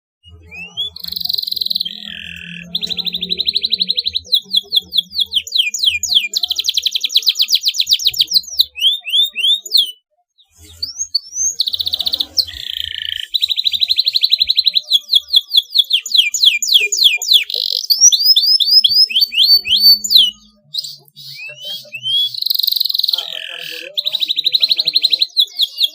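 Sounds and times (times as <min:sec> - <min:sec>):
canary singing trills: 0:00.2 - 0:25.9.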